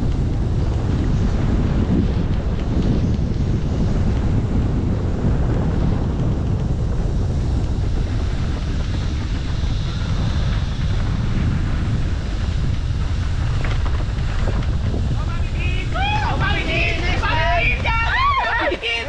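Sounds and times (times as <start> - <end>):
tyre rumble on dirt trail: 0.0 - 18.5
wind buffeting microphone: 0.0 - 19.0.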